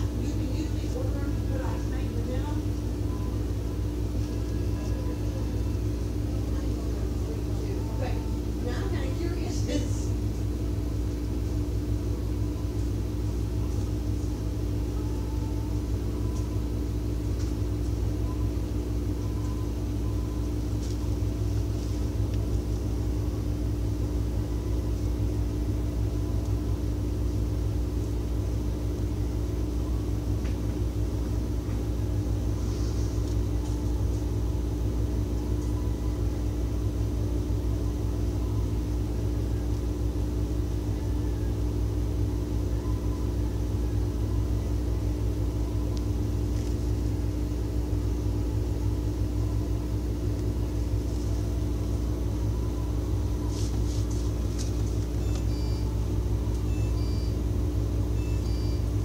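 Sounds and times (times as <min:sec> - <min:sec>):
droning machinery hum: 0:00.0 - 0:59.0.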